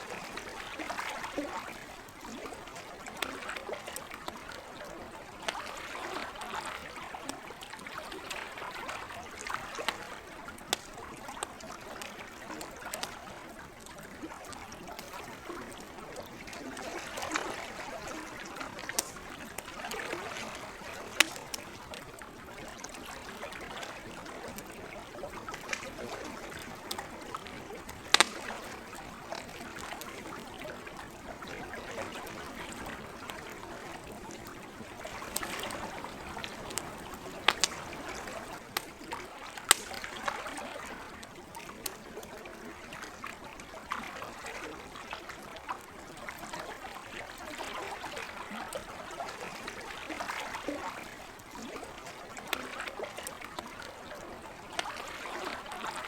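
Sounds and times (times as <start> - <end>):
campfire crackling: 0.0 - 56.0
lake water lapping at shore: 0.0 - 56.0.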